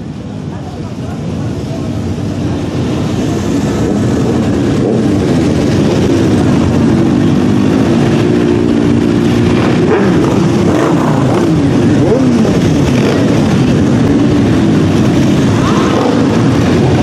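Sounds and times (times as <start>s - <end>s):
motorcycles riding past: 1.2s - 17.0s.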